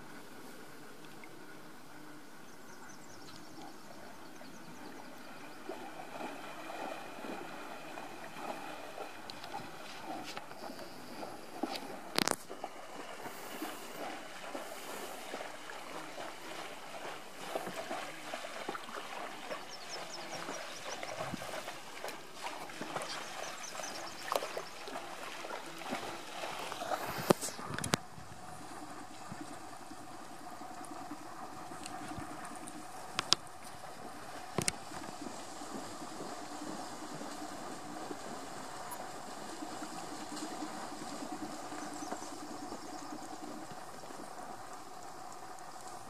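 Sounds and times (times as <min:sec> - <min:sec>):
animals splashing through water: 0:03.3 - 0:46.0.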